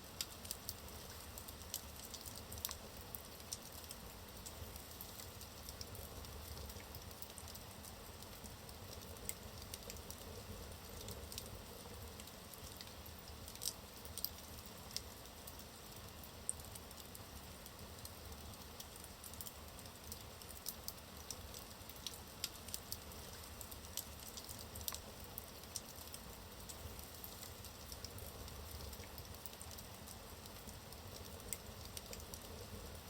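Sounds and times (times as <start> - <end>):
wood fire crackling and popping: 0.1 - 33.0.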